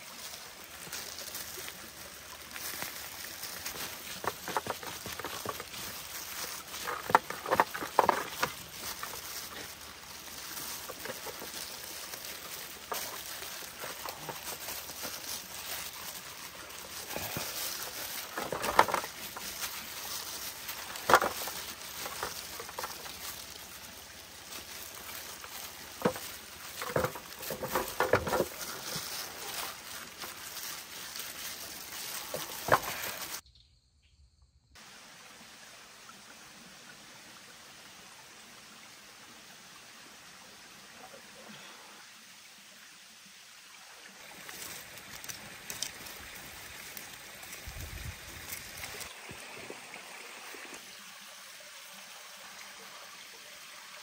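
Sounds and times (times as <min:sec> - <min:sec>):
running stream water: 0:00.0 - 0:33.4, 0:34.8 - 0:54.0.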